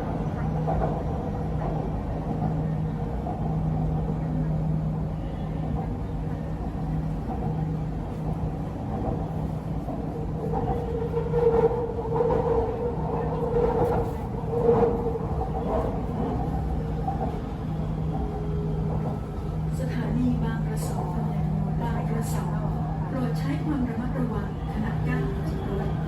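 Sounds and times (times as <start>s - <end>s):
train car rumble and hum: 0.0s - 26.0s.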